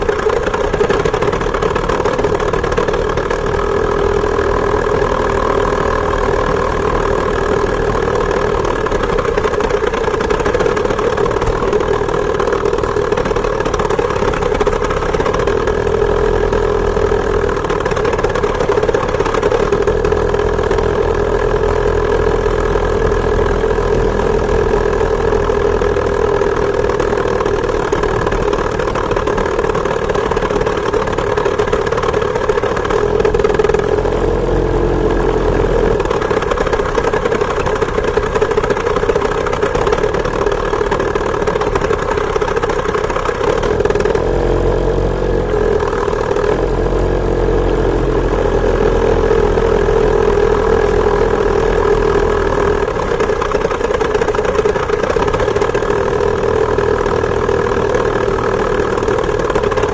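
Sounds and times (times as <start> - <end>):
two-stroke moped engine running: 0.0 - 59.9.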